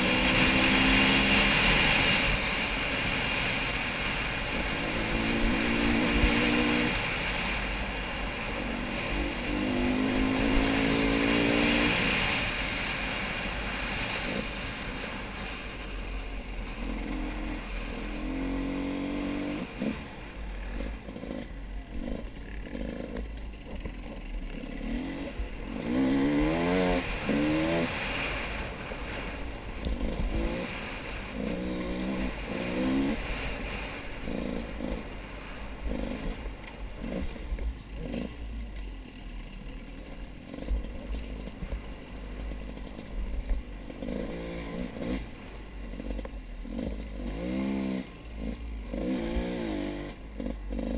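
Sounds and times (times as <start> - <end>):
vehicle engine revving: 0.0 - 15.7, 16.4 - 38.6, 39.7 - 50.9.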